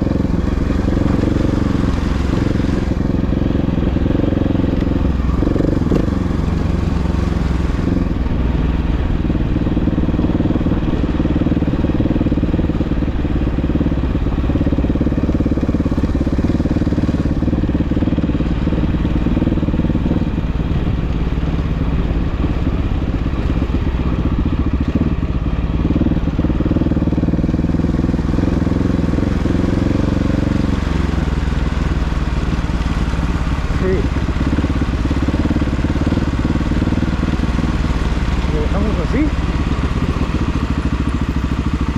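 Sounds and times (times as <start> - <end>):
off-road vehicle engine running: 0.0 - 41.9.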